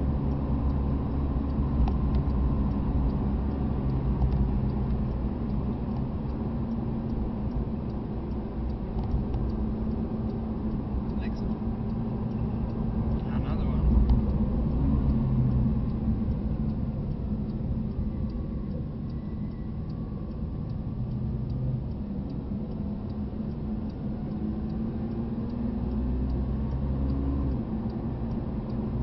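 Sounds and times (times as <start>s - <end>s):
car engine rumble in cabin: 0.0s - 29.0s.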